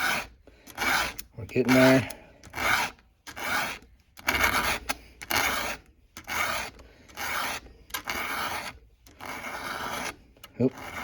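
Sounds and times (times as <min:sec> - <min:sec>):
file rasping on chain tooth: 0:00.0 - 0:11.0.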